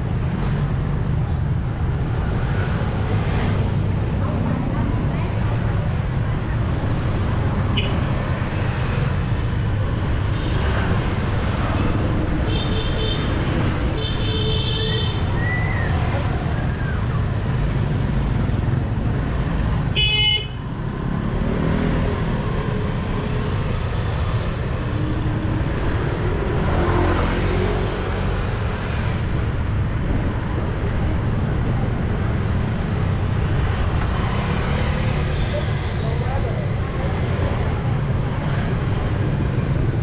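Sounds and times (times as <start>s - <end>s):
city street traffic: 0.0s - 40.0s.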